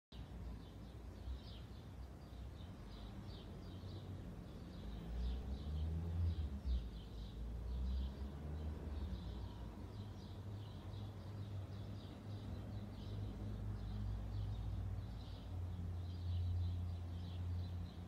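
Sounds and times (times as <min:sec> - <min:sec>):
small songbirds chirping: 0:00.1 - 0:18.0.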